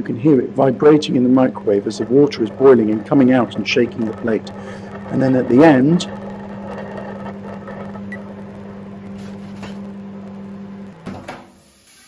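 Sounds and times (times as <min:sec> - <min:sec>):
plate vibrating: 0:00.0 - 0:11.1
microwave oven humming: 0:00.0 - 0:11.8.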